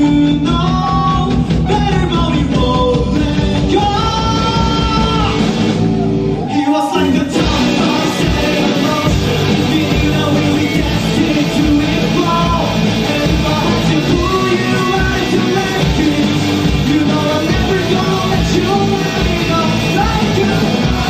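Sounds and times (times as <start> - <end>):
person singing: 0.0 - 5.6, 6.4 - 21.0
live pop-punk band playing: 0.0 - 21.0.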